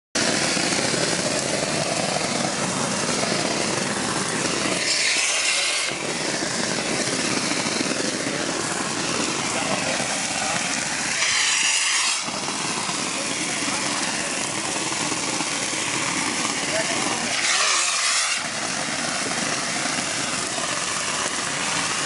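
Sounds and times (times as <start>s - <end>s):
concrete spray nozzle rushing: 0.2s - 22.0s.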